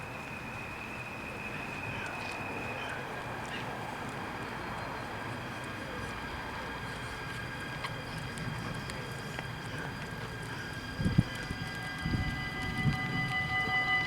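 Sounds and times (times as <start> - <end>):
faint steady whine: 0.0 - 14.0
outdoor background noise: 0.0 - 14.0.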